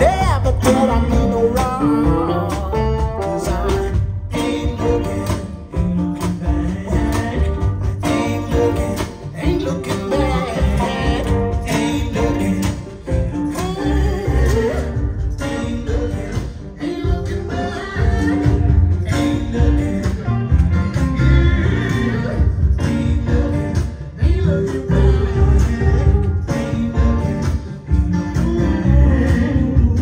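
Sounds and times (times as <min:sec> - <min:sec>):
song with singing voice and heavy bass: 0:00.0 - 0:30.0.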